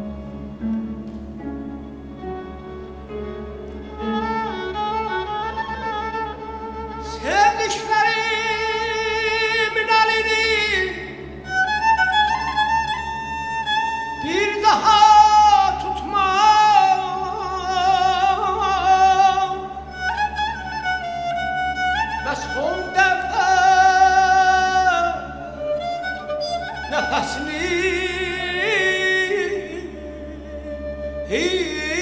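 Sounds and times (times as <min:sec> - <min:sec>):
bowed strings: 0:00.0 - 0:32.0.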